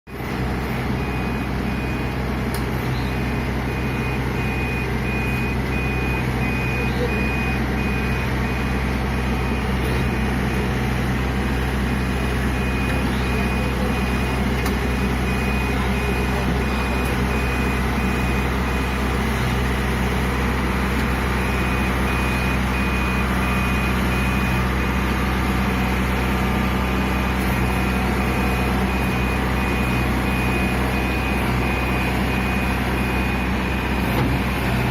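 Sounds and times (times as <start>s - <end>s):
diesel engine running: 0.1s - 34.9s
reversing alarm beeping: 0.2s - 34.9s.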